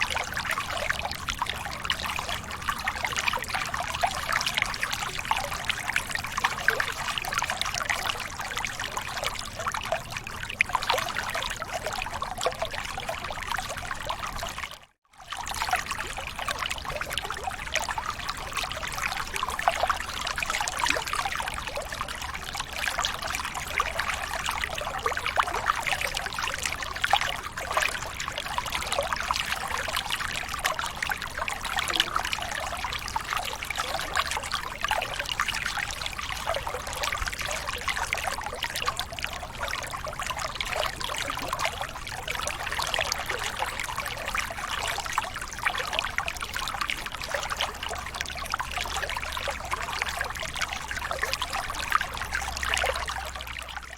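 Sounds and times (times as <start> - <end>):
water trickling and splashing: 0.0 - 53.9.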